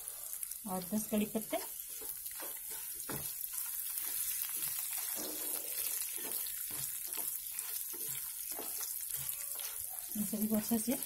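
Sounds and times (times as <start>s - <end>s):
spices sizzling in hot oil: 0.0s - 11.0s
wooden spatula scraping pan: 1.4s - 11.0s.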